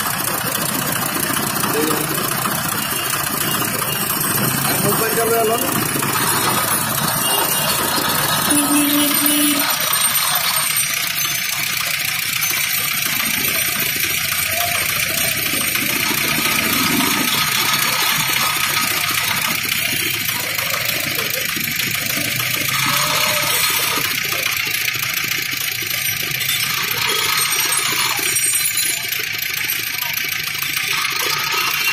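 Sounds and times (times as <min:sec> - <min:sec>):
roller press running: 0:00.0 - 0:31.9.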